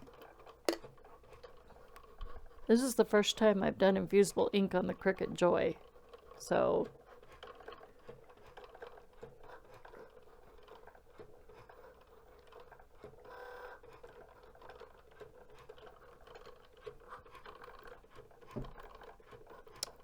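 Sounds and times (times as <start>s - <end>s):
faint motor hum: 0.0s - 20.0s.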